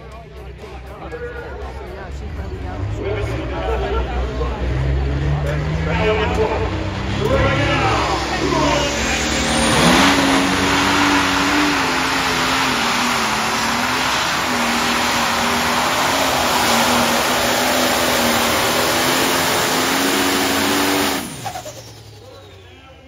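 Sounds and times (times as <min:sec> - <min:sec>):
tractor diesel engine at full throttle: 0:01.5 - 0:23.0.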